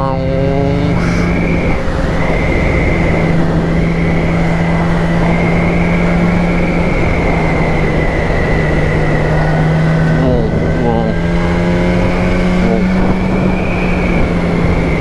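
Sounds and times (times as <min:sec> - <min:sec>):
motorcycle engine droning: 0:00.0 - 0:15.0
wind rush: 0:00.0 - 0:15.0
helmet whistling: 0:00.9 - 0:15.0.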